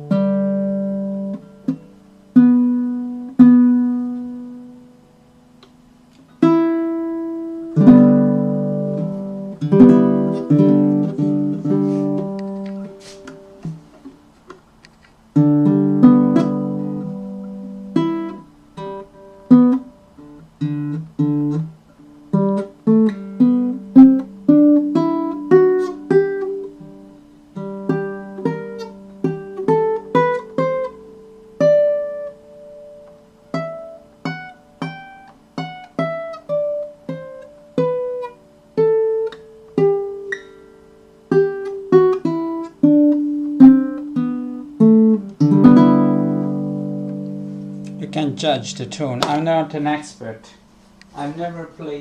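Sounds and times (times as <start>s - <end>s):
ukulele plucked melody: 0.0s - 4.9s, 6.2s - 14.6s, 15.4s - 49.4s
ukulele chord strummed: 0.0s - 14.2s, 15.3s - 50.0s.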